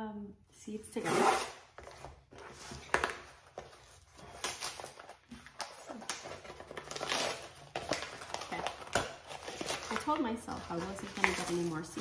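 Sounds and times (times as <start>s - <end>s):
paper rustling and crinkling: 1.8s - 12.0s.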